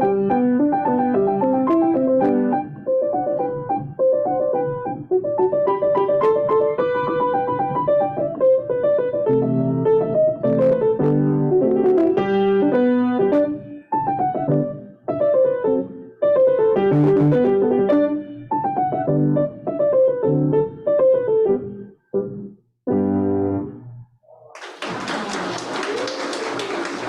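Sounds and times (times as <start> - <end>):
solo piano melody: 0.0 - 22.0.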